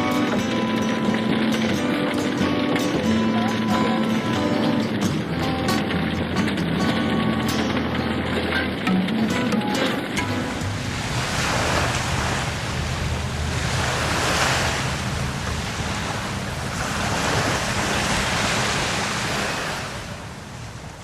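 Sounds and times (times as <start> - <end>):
sea waves breaking on beach: 0.0 - 21.0
wind rumbling on microphone: 0.0 - 21.0.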